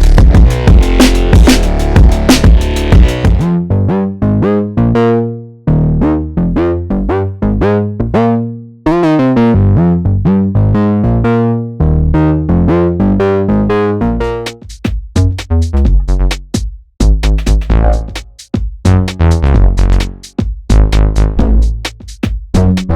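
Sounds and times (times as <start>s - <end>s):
synthesizer notes and chords: 0.0s - 18.3s, 18.9s - 21.9s.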